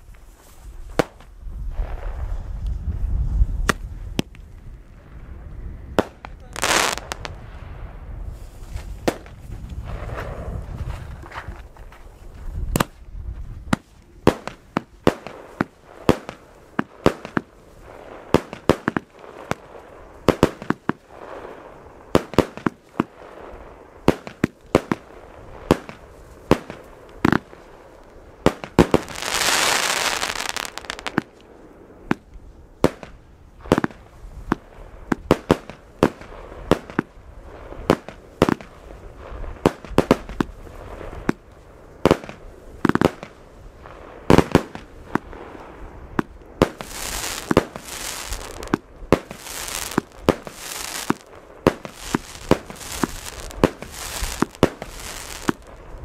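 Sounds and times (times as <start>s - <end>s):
fireworks bangs: 0.8s - 2.6s, 5.9s - 12.0s, 13.6s - 56.0s.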